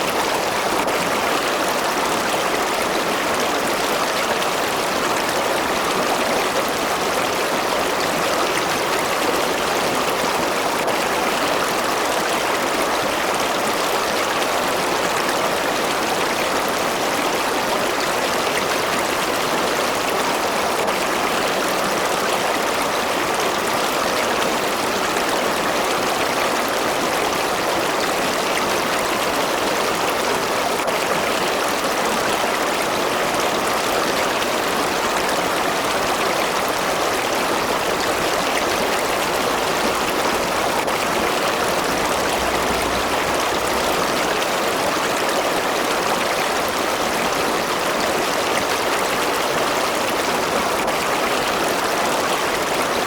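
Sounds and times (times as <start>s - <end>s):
stream flowing over rocks: 0.0s - 53.0s.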